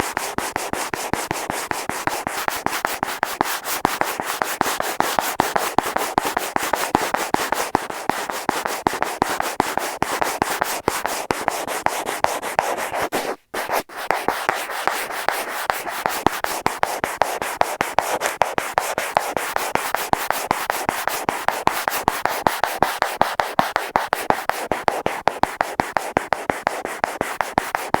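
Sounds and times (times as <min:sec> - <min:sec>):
fingernails scratching on a wall: 0:00.0 - 0:28.0.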